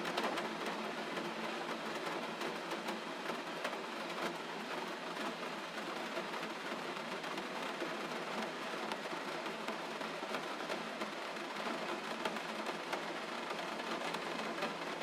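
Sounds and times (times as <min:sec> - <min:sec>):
gentle rain: 0:00.0 - 0:15.0.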